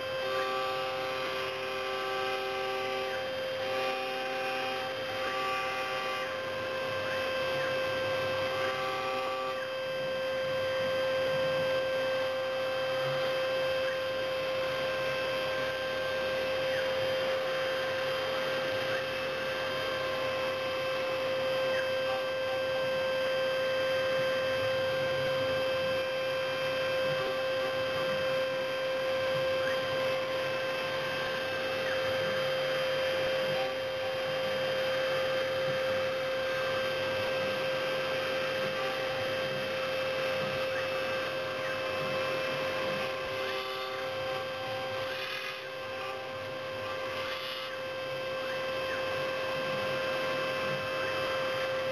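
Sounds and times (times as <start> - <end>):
milling machine spindle whine: 0.0 - 51.9.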